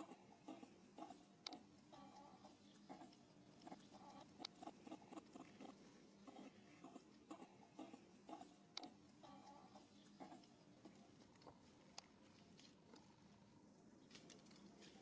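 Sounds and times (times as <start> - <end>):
animals clicking: 0.0 - 13.1
chewing clicks: 0.0 - 13.1.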